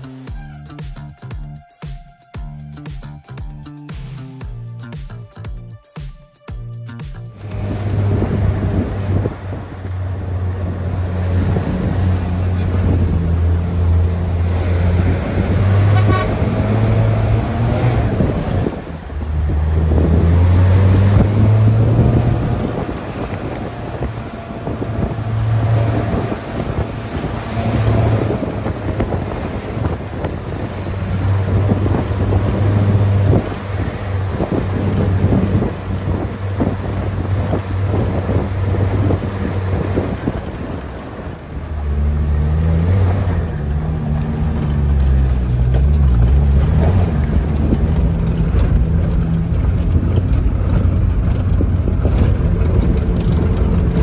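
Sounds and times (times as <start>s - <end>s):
vehicle engine while driving: 7.3s - 54.0s
wind or road noise: 7.3s - 54.0s.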